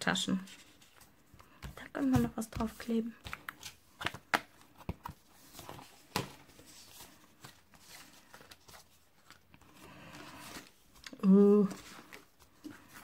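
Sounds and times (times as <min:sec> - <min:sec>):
paper rustling: 0:00.4 - 0:13.0.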